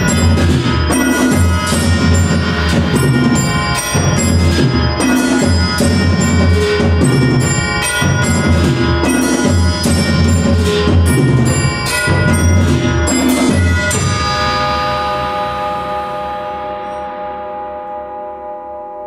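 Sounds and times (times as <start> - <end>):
percussion ensemble playing: 0.0 - 18.6.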